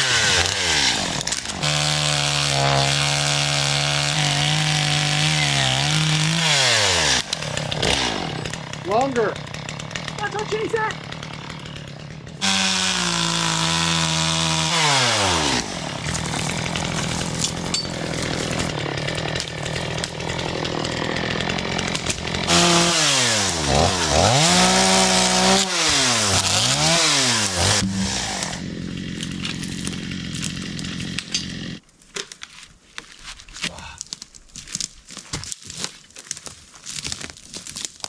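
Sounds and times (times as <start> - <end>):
chainsaw revving: 0.0 - 31.8.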